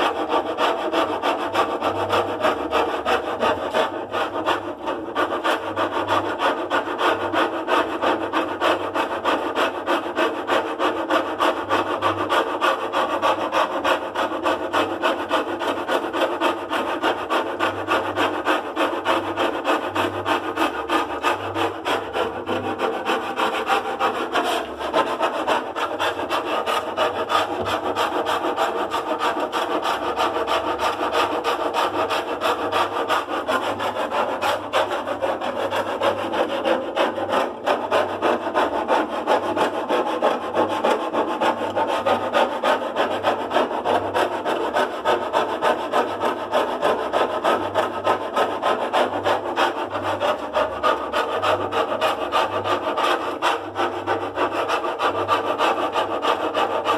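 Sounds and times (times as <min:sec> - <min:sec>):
loud rasping scraping strokes: 0:00.0 - 0:56.9.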